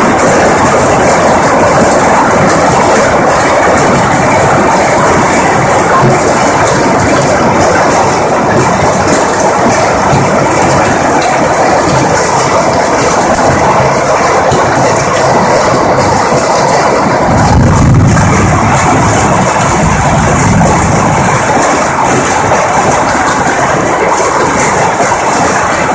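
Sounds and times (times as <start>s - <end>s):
rain and hail clattering: 0.0s - 25.9s.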